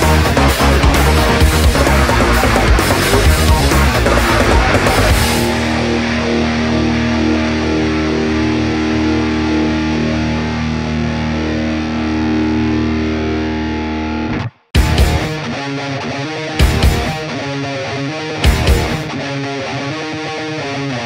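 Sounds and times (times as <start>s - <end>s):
heavy rock electric guitar: 0.0s - 21.0s.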